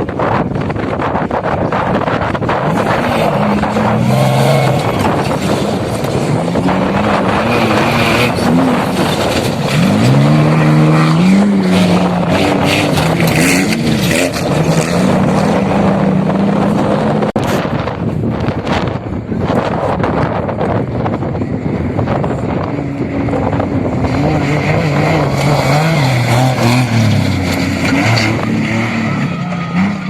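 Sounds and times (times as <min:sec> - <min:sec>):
rushing noise: 0:00.0 - 0:30.0
motorcycle engine revving: 0:00.4 - 0:30.0.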